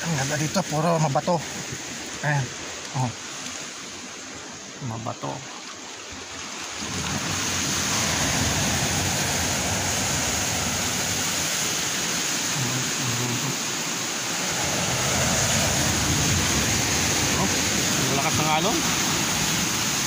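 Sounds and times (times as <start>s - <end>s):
waves breaking on rocky shore: 0.0s - 20.0s.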